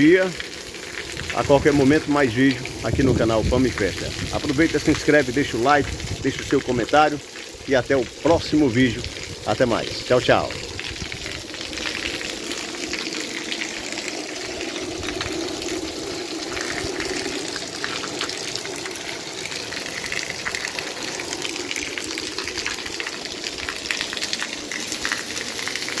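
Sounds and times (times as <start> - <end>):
steady rain: 0.0 - 26.0
water pouring from roof spout: 0.0 - 26.0.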